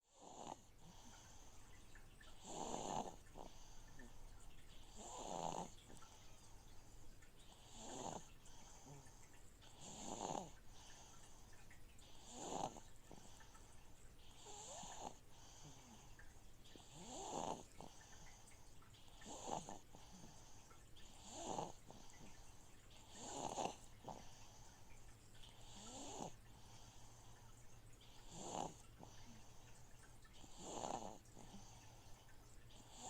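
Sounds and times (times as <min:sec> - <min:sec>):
baby snoring softly: 0:00.1 - 0:06.8, 0:07.4 - 0:33.0
aquarium filter pump hum: 0:00.2 - 0:33.0.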